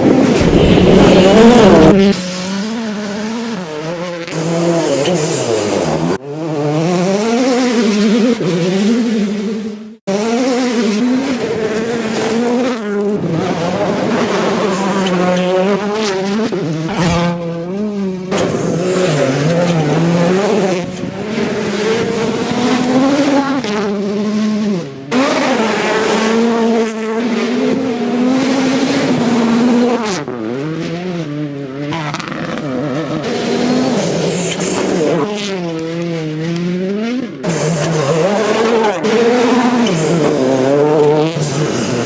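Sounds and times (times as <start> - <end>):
rally car engine revving: 0.0 - 42.0.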